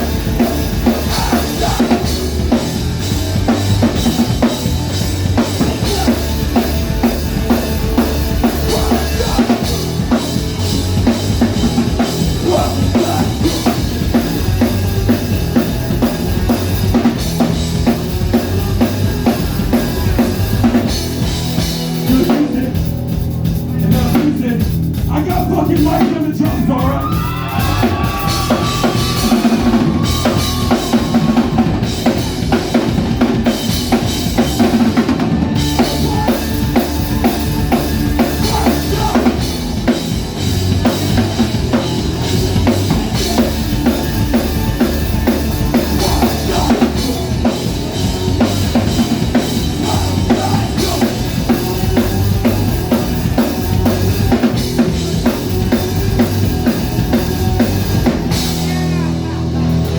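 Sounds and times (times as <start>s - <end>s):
drum kit: 0.0s - 59.9s
live band playing: 0.0s - 59.9s.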